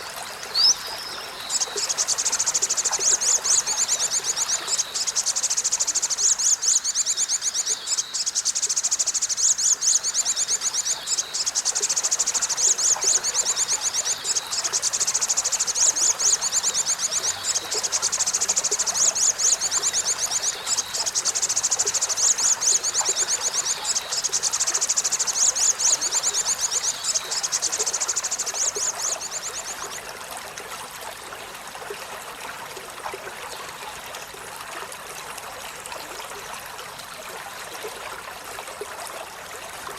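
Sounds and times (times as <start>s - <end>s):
steady rush of running water: 0.0s - 39.9s.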